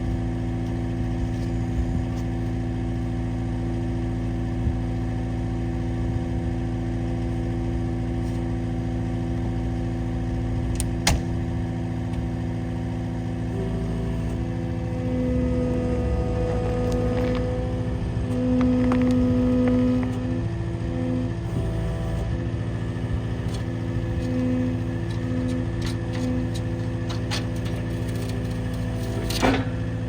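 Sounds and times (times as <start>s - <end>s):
skid steer engine idling: 0.0s - 30.0s.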